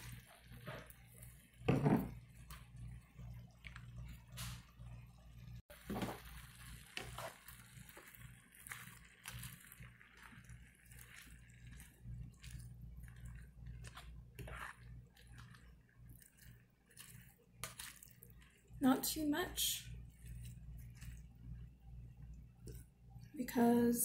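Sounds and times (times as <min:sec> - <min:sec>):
spatula stirring food in pan: 0:00.0 - 0:05.0, 0:05.7 - 0:23.2
faint sizzle: 0:00.0 - 0:24.0.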